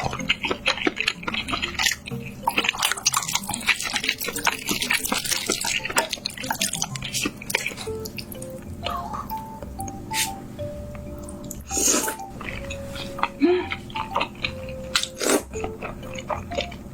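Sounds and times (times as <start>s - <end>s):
wet chewing and lip smacking: 0.0s - 10.3s, 11.2s - 16.8s.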